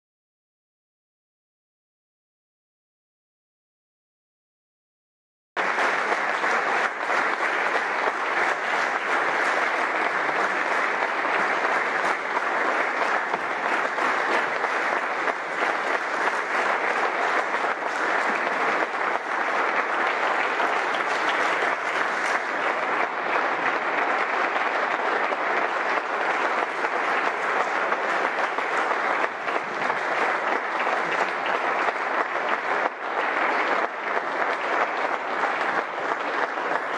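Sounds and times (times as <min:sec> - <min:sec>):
crowd applauding: 0:05.6 - 0:36.9.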